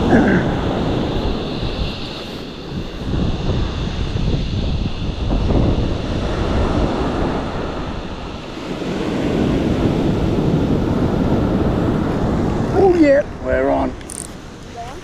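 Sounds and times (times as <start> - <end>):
surf washing onto beach: 0.0 - 15.0
wind rumbling on microphone: 0.0 - 15.0.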